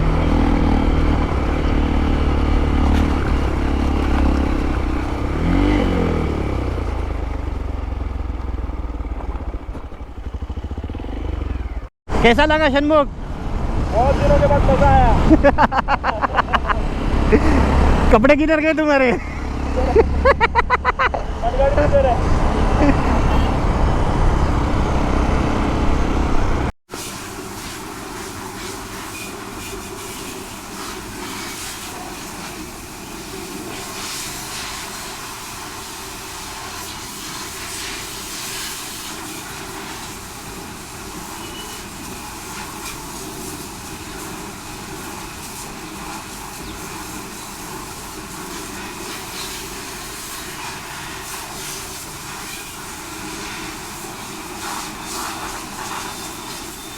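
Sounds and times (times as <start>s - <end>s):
vehicle and wind hiss: 0.0s - 9.6s, 10.2s - 56.9s
loud vehicle rumble: 0.0s - 56.9s.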